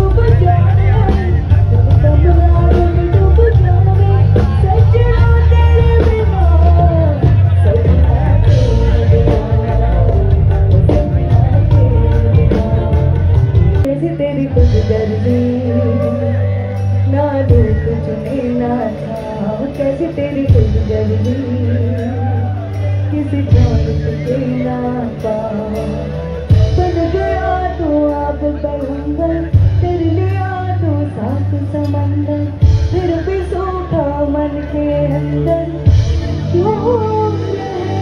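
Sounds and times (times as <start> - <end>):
heavy bass line: 0.0 - 38.0
live band with singer: 0.0 - 38.0.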